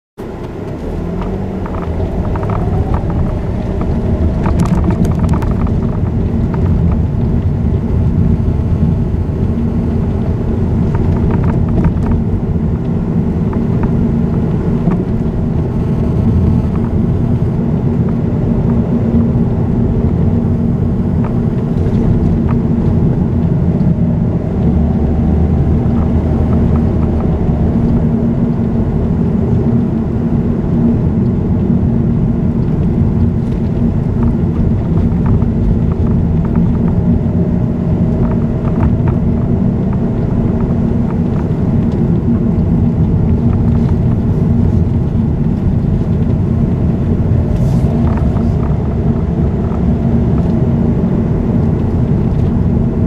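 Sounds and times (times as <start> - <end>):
car engine and tyre noise: 0.2 - 53.0.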